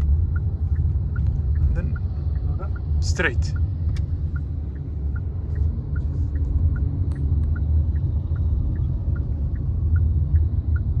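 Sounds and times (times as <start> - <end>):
road and tyre rumble: 0.0 - 11.0
turn signal ticking: 0.0 - 11.0.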